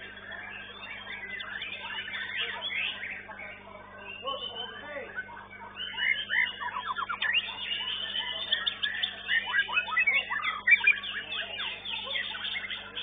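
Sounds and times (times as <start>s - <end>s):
caged songbirds singing: 0.0s - 13.0s.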